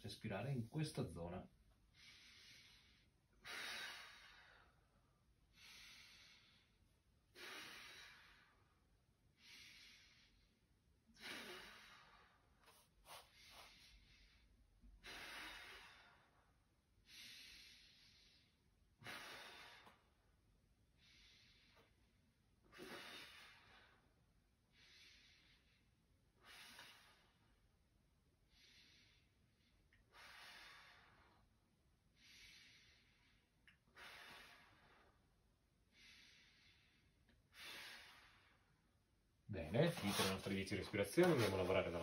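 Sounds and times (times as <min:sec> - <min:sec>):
person breathing slowly: 0:01.9 - 0:20.2, 0:20.9 - 0:27.6, 0:28.5 - 0:38.9.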